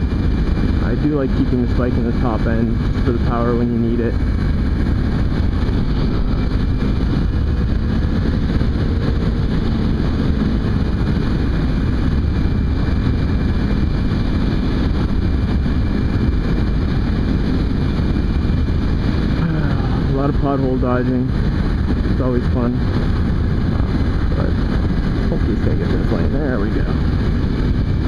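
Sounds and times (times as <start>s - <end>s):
motorcycle engine droning: 0.0s - 28.0s
wind rushing over microphone: 0.0s - 28.0s.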